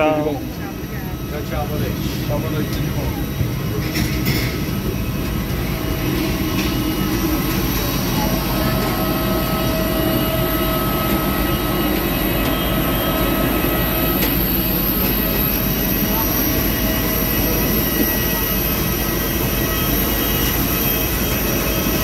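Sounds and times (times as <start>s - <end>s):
jet aircraft drone: 0.0s - 22.0s.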